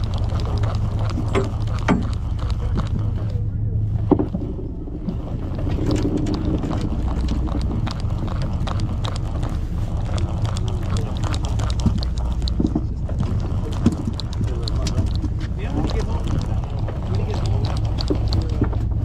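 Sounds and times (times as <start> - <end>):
fishing reel clicking: 0.0 - 3.4, 5.2 - 18.8
boat engine humming: 0.0 - 19.0
wind buffeting microphone: 0.0 - 19.0.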